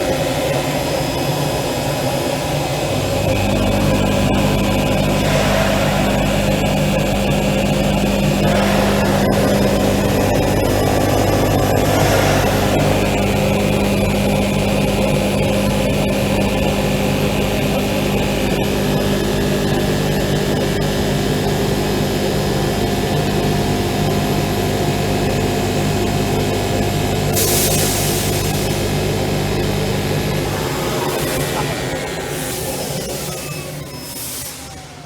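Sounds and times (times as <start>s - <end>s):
cutting machine droning: 0.0s - 33.8s.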